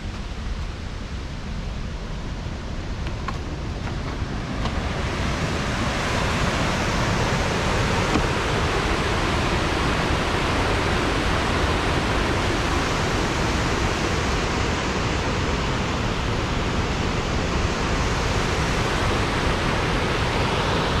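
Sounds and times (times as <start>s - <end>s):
river rushing over rapids: 0.1s - 21.0s.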